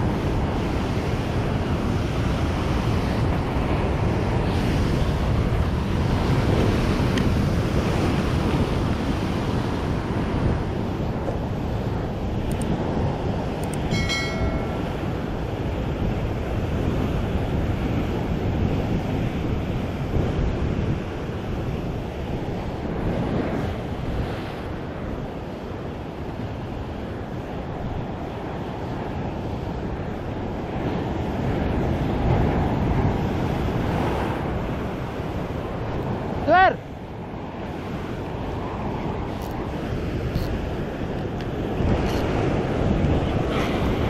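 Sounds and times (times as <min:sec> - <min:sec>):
waves breaking over rocks: 0:00.0 - 0:44.0
wind rumbling on microphone: 0:00.0 - 0:44.0.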